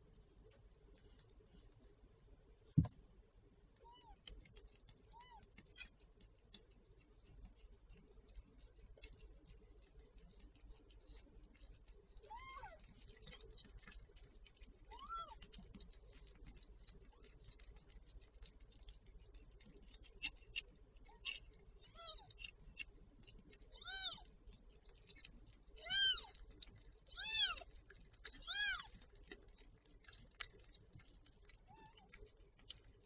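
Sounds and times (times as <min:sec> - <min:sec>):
faint soft clicks: 0:02.6 - 0:33.0.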